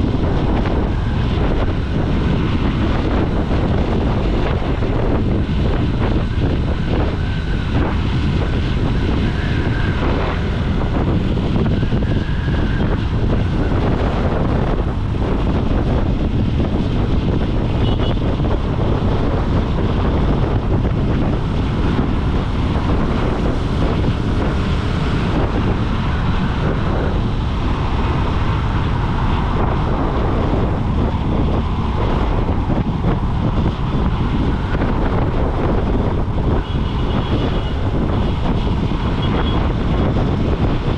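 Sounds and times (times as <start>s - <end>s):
road noise: 0.0s - 40.9s
wind rushing over microphone: 0.0s - 40.9s.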